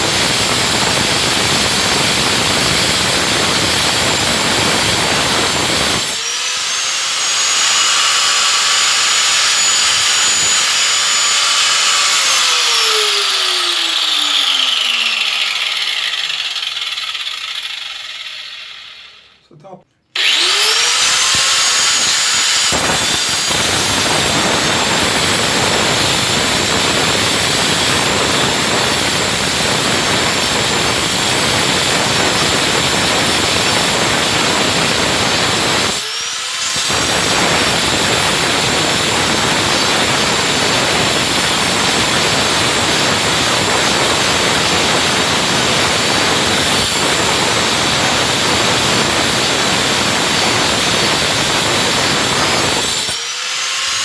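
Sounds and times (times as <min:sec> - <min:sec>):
circular saw cutting: 0:00.0 - 0:19.4, 0:20.2 - 0:54.0.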